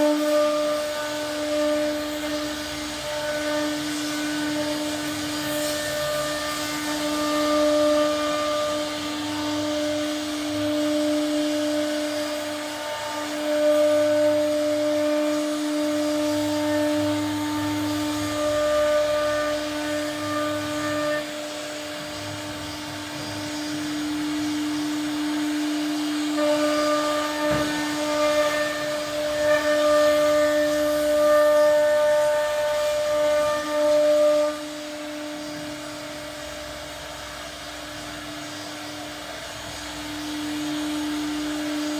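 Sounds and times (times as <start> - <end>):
bit cutting wood: 0.0 - 34.8
router spindle whining: 0.0 - 41.9.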